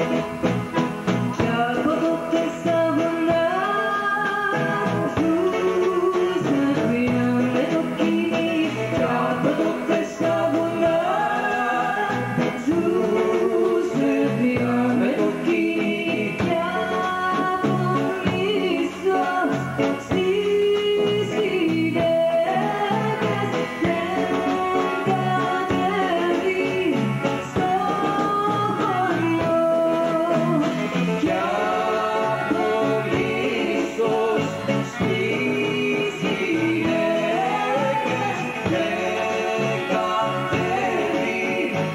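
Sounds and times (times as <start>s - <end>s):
instrumental backing with bass: 0.0s - 41.9s
live stage music: 0.0s - 41.9s
woman singing: 1.3s - 41.9s.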